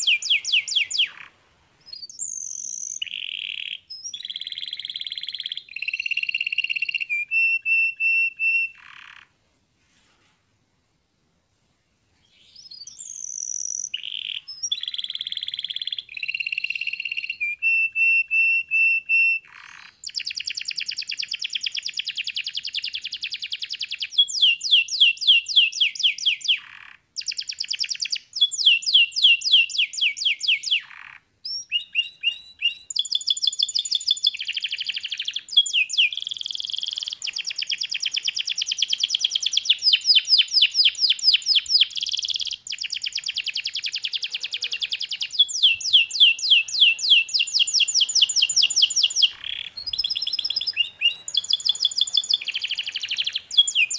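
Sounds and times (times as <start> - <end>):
canary singing trills: 0.0 - 9.3, 12.3 - 53.9.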